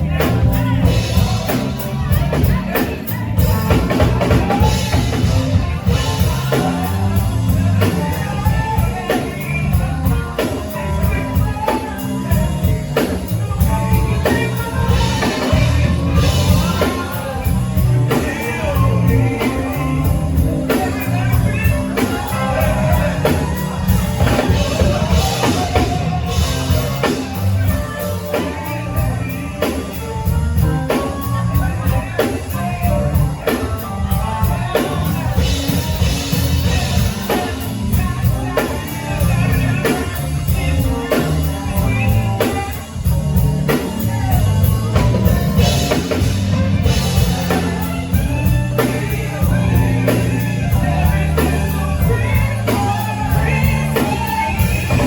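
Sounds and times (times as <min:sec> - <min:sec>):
live band music: 0:00.0 - 0:55.0
person singing: 0:00.0 - 0:55.0
steady drum beat: 0:00.0 - 0:55.0.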